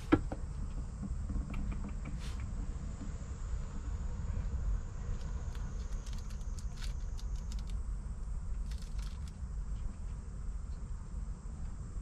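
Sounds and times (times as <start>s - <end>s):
faint high whine: 0.0s - 12.0s
steady low rumble: 0.0s - 12.0s.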